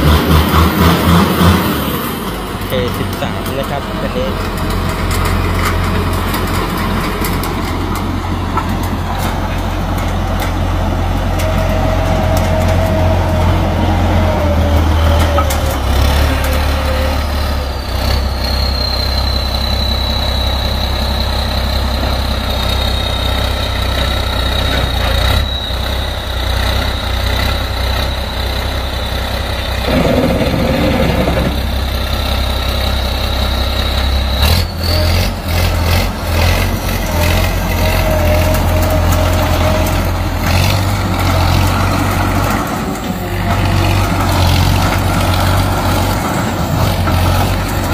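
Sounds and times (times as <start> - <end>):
crawler tractor engine rumbling: 0.0 - 47.9.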